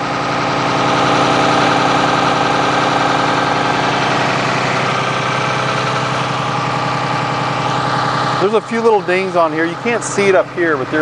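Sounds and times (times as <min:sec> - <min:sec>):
diesel bus engine idling: 0:00.0 - 0:11.0.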